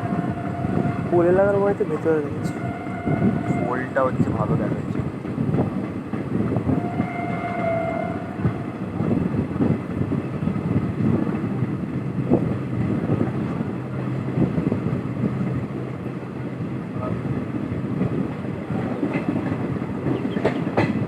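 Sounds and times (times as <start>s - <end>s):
wind on microphone: 0.0s - 1.6s, 2.3s - 21.0s
train rumble: 0.0s - 21.0s.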